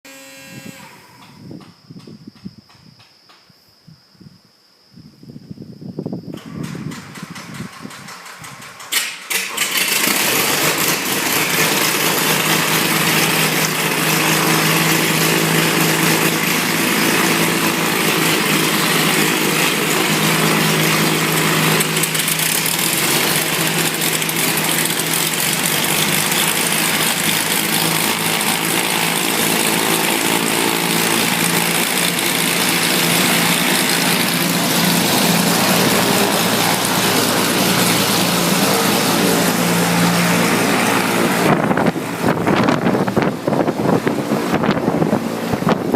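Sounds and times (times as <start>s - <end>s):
aircraft engine starting and idling: 6.3s - 45.9s.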